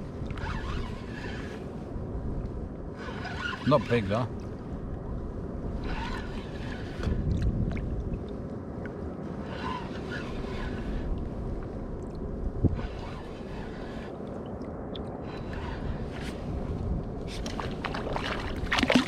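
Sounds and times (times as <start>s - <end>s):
water lapping around kayak: 0.0s - 19.0s
wind buffeting microphone: 0.0s - 19.0s.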